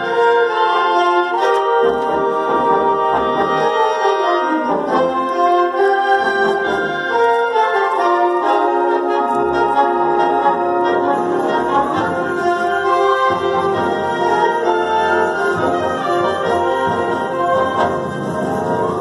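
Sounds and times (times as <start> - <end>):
concert band playing: 0.0 - 19.0.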